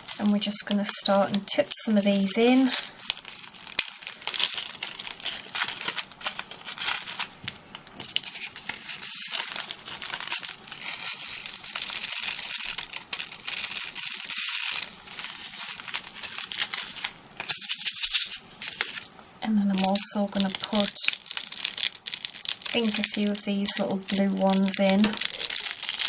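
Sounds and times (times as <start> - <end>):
thin plastic crinkling: 0.0 - 26.0.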